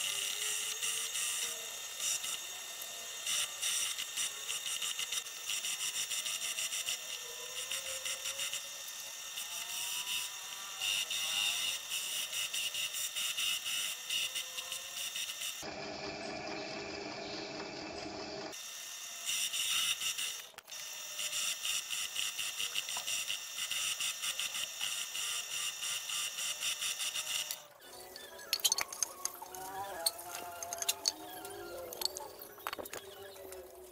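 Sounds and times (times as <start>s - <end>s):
drill press scraping buzz: 0.0s - 33.9s.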